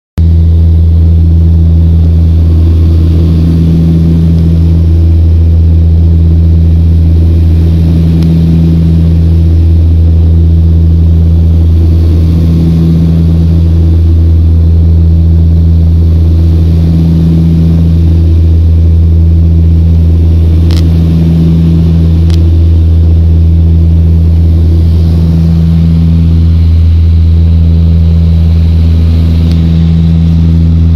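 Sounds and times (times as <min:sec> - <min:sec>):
aircraft engines droning: 0:00.2 - 0:30.9.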